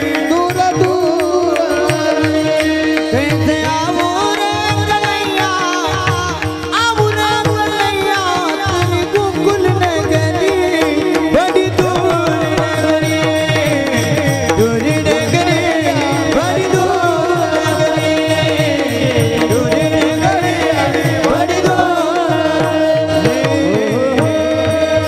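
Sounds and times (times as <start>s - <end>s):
fast hand-drum strokes: 0.0s - 25.0s
person singing devotional melody: 0.0s - 25.0s.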